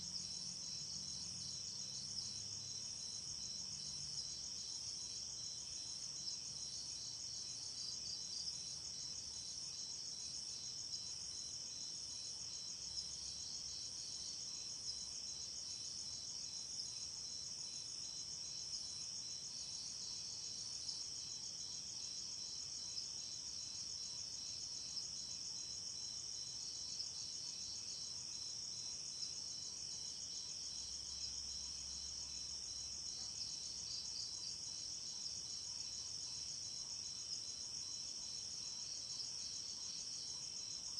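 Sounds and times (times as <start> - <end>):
insects chirping: 0.2 - 40.9.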